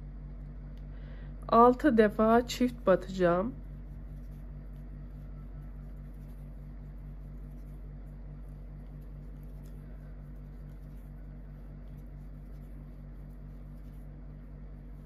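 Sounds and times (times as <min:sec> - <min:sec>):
pulsing low hum: 0:00.0 - 0:15.0
crochet hook scratching yarn: 0:02.1 - 0:15.0.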